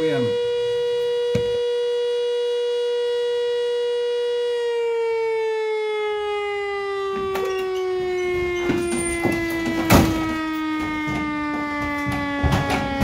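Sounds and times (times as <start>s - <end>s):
fire siren wailing: 0.0s - 13.0s.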